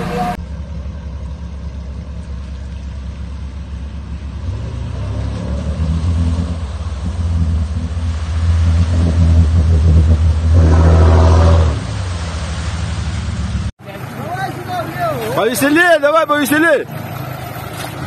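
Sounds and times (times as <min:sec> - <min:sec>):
car engine pulling hard: 0:00.0 - 0:18.0
water splashing: 0:00.0 - 0:18.0.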